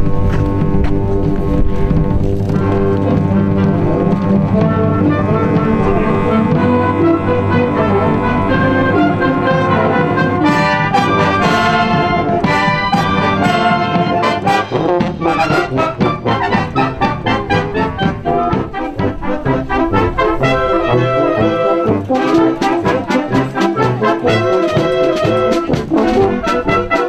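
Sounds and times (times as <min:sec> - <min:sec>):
wind band playing: 0:00.0 - 0:27.0.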